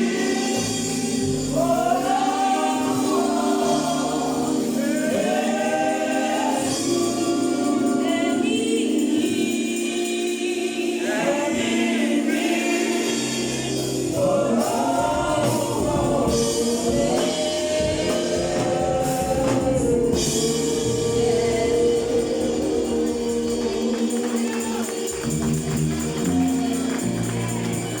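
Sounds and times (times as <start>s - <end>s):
choir singing gospel: 0.0s - 28.0s.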